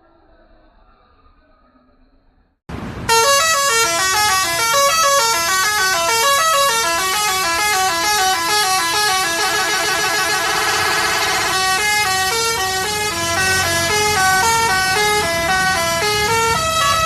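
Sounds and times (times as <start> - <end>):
musical bus horn playing a tune: 3.1 - 17.0.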